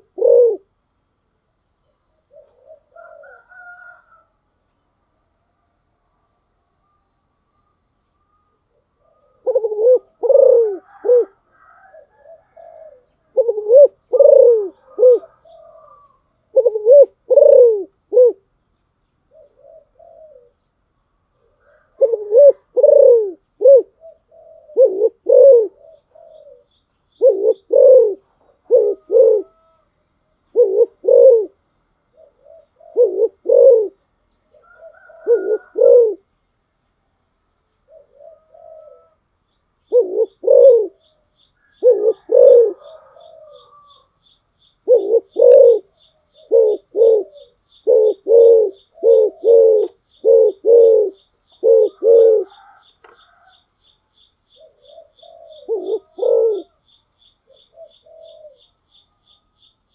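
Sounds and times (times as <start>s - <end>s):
dove cooing: 0.0s - 0.8s, 1.9s - 4.3s, 8.6s - 18.5s, 19.3s - 20.7s, 21.3s - 36.3s, 37.8s - 53.7s, 54.5s - 59.6s.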